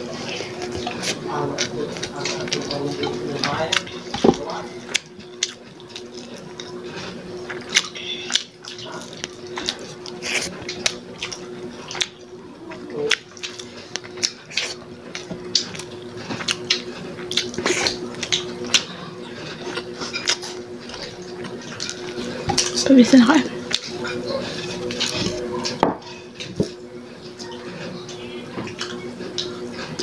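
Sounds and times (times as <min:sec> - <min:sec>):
wet chewing and lip-smacks: 0:00.2 - 0:22.9, 0:23.6 - 0:30.0.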